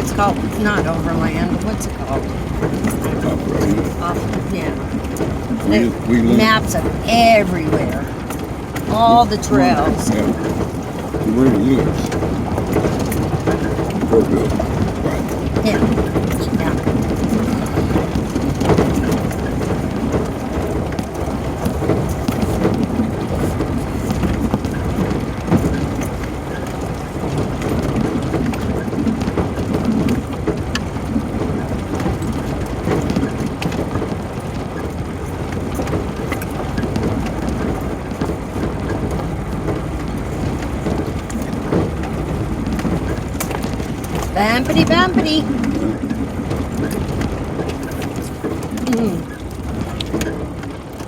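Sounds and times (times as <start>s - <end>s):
off-road vehicle engine rumble: 0.0s - 51.0s
rattles and knocks from bumps: 0.0s - 51.0s.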